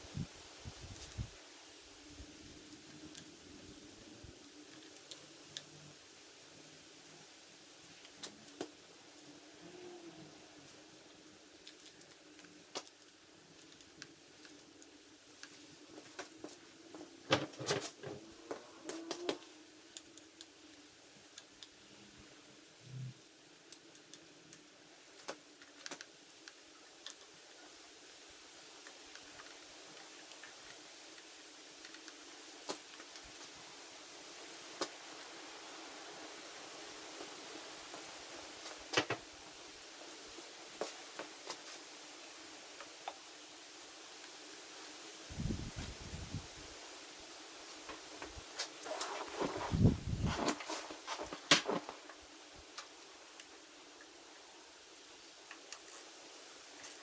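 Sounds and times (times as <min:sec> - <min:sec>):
faint steady hum: 0:00.0 - 0:57.0
steady hiss: 0:00.0 - 0:57.0.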